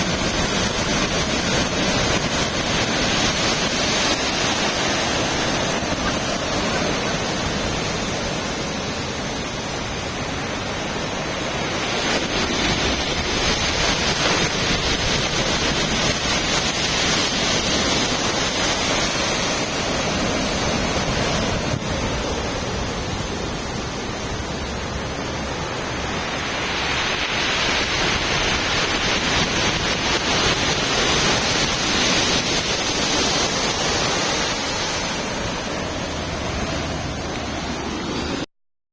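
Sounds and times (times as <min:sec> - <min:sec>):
wind buffeting microphone: 0:00.0 - 0:38.4
surf washing against seawall: 0:00.0 - 0:38.5.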